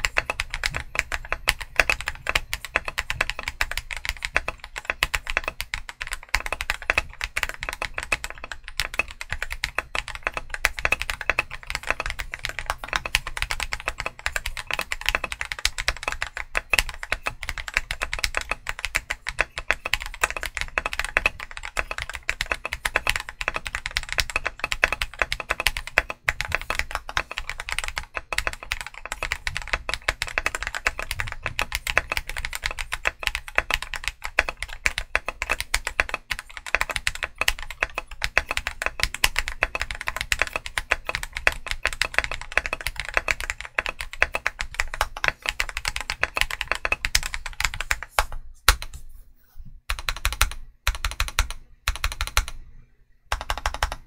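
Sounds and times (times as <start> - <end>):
fast typing on mechanical keyboard: 0.0 - 48.9, 49.9 - 52.6, 53.3 - 54.0.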